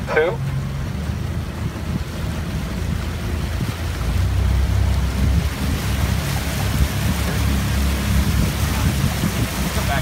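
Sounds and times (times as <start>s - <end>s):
motorboat engine running: 0.0s - 10.0s
water noise: 0.0s - 10.0s
wind: 0.0s - 10.0s.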